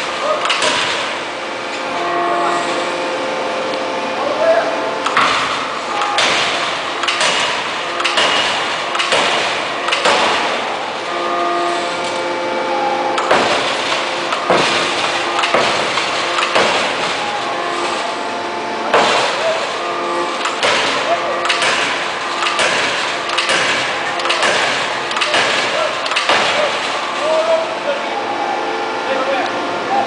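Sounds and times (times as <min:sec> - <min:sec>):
forging hammer blows: 0:00.0 - 0:03.0, 0:05.0 - 0:28.2.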